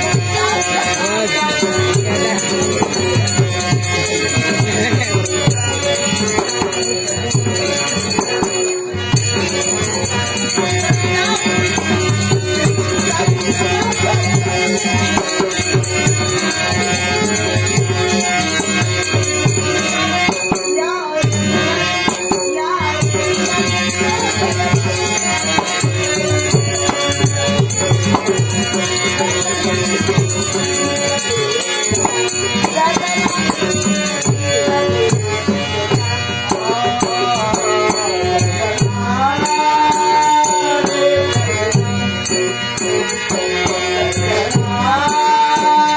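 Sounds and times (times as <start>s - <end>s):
jingling rattle percussion: 0.0s - 45.9s.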